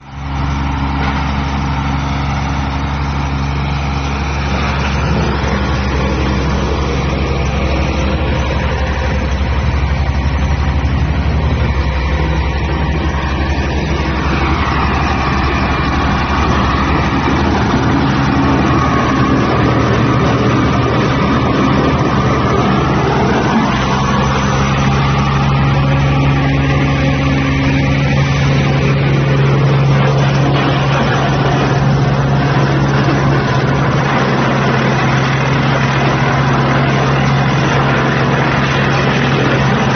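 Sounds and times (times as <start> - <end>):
wood chipper diesel engine running: 0.0 - 39.9.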